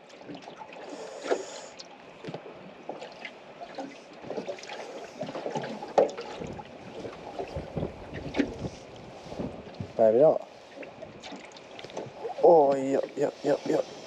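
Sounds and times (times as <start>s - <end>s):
waves slapping boat hull: 0.0s - 14.0s.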